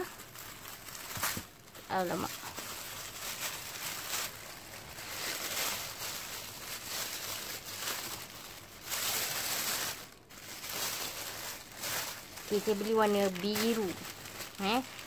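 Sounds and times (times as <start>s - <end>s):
tissue paper rustling: 0.0s - 15.0s.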